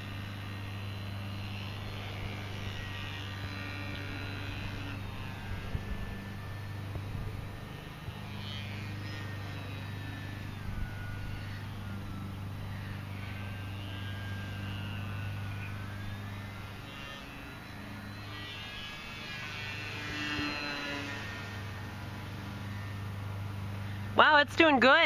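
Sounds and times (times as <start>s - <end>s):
rc plane motor whine: 0.0s - 24.7s
steady low hum: 0.0s - 25.0s.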